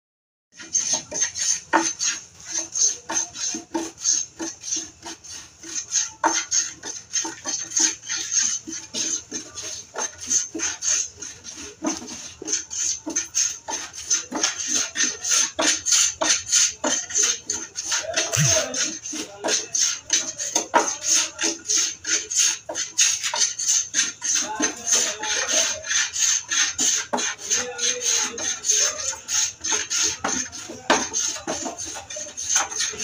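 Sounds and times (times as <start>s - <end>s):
hand plane shaving wood: 0.6s - 33.0s.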